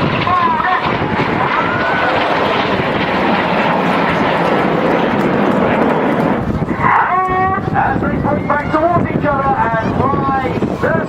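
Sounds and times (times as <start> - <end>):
jet roar: 0.0 - 11.0.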